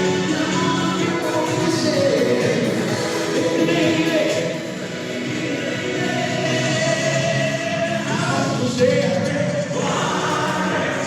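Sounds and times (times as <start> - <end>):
backing track: 0.0 - 11.0
man singing pop song live: 0.0 - 11.0.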